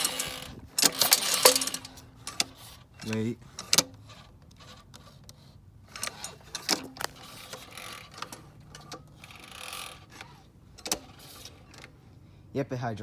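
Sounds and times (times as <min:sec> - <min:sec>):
metallic clicks and knocks: 0:00.0 - 0:12.0.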